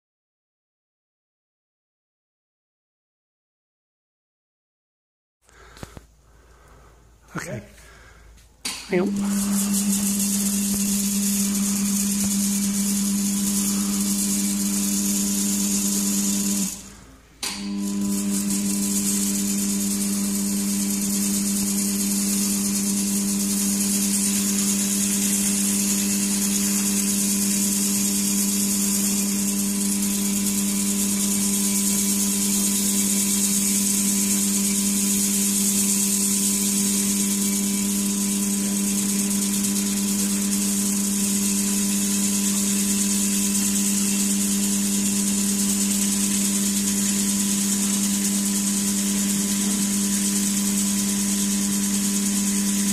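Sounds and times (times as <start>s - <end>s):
cleaning machine motor hum with hiss: 7.4s - 52.9s.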